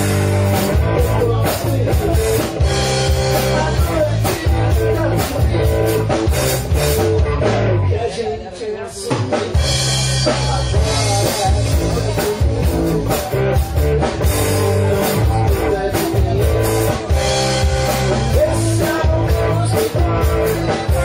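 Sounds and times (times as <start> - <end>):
electric bass line: 0.0 - 8.0, 9.4 - 21.0
electric guitar: 0.0 - 8.3, 9.0 - 21.0.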